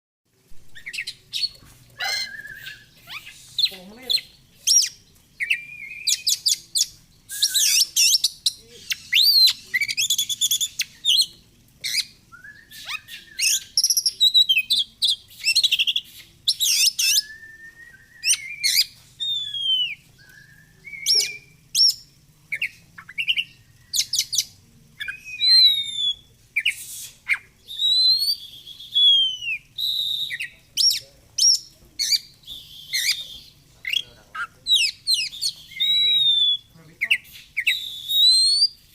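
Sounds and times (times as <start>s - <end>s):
bird singing varied song: 0.5s - 38.9s.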